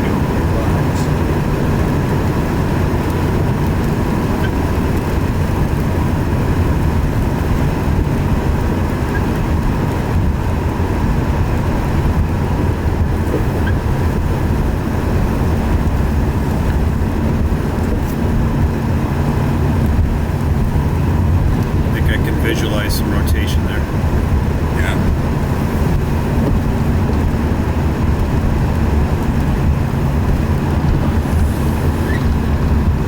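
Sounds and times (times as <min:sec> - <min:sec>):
road and engine rumble: 0:00.0 - 0:33.0.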